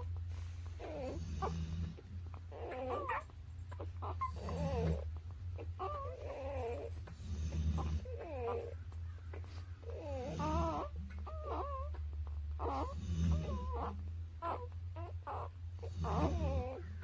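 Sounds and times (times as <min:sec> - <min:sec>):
low steady hum: 0:00.0 - 0:17.0
puppies squeaking and whimpering: 0:00.0 - 0:17.0.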